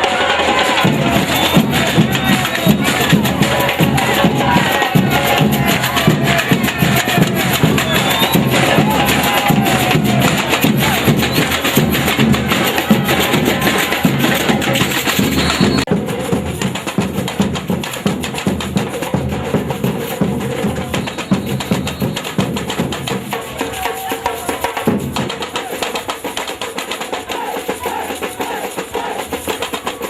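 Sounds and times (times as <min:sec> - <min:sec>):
samba drum ensemble: 0:00.0 - 0:30.0.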